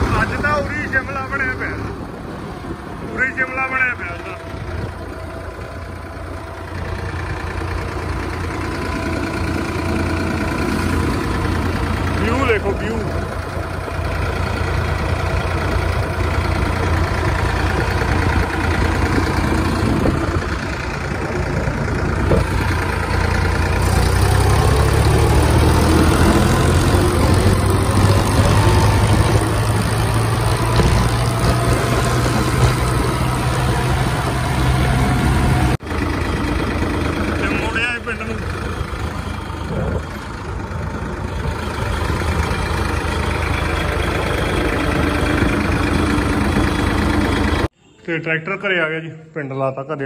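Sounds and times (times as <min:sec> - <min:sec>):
tractor engine running: 0:00.0 - 0:47.8.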